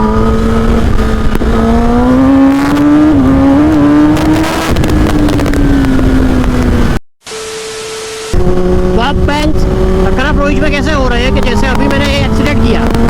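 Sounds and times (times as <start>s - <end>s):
low wind rumble: 0.0s - 7.0s, 8.3s - 13.0s
motorcycle engine running: 0.0s - 7.0s, 7.8s - 13.0s.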